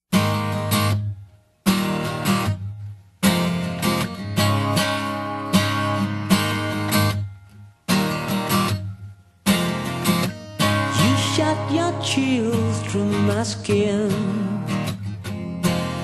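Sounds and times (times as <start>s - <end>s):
acoustic guitar strumming chords: 0.1s - 16.0s.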